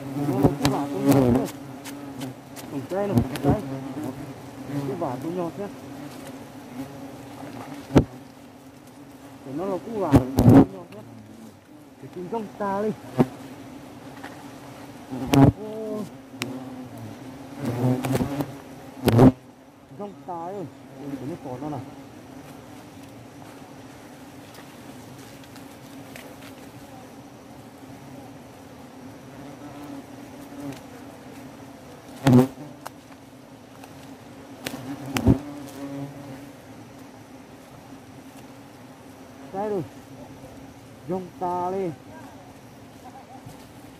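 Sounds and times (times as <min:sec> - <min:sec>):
wasps buzzing: 0:00.0 - 0:43.9.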